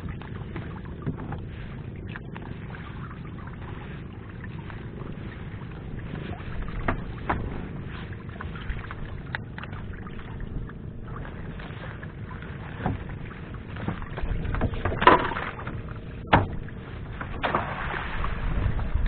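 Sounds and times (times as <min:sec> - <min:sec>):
sharp knocks and splashes: 0:00.0 - 0:19.0
water sloshing around boat: 0:00.0 - 0:19.0.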